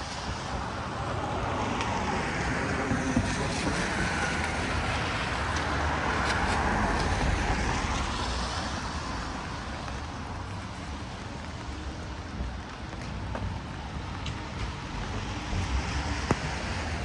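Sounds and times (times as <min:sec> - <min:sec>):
car tyres hissing on wet road: 0:00.0 - 0:17.0
rain: 0:00.0 - 0:17.0
traffic noise: 0:00.0 - 0:17.0.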